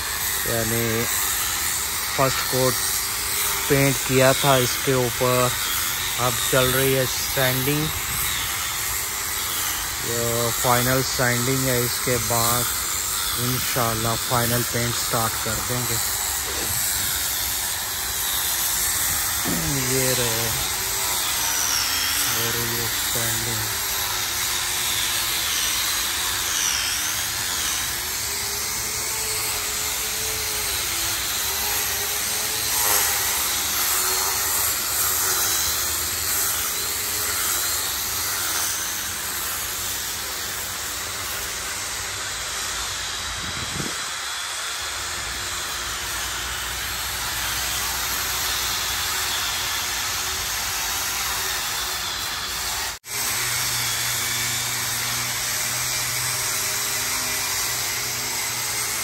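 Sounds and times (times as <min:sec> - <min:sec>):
electric sander running: 0:00.0 - 0:59.0.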